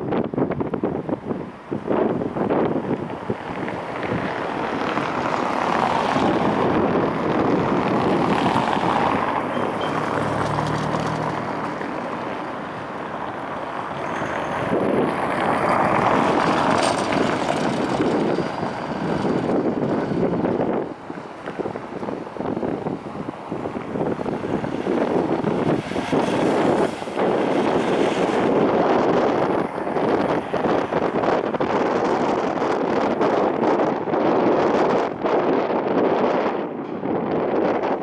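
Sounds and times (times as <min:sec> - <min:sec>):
passing traffic: 0:00.0 - 0:38.0
wind buffeting microphone: 0:00.0 - 0:38.0.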